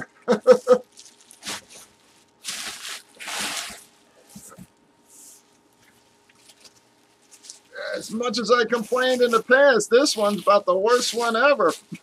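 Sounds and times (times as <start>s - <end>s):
bubble wrap crinkling: 0.7s - 12.0s.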